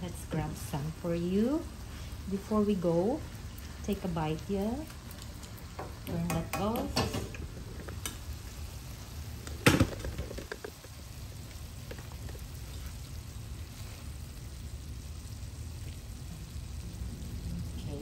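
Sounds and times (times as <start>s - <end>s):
food sizzling faintly in a skillet: 0.0s - 18.0s.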